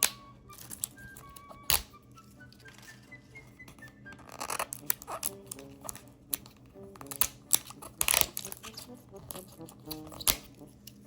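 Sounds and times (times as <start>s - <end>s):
hands clicking and tapping package: 0.0s - 11.0s.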